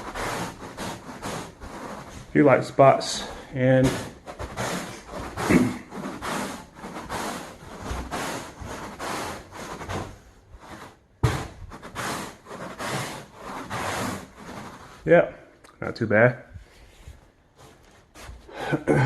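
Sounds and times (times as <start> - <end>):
brush scrubbing carpet: 0.0 - 15.1, 16.8 - 18.6.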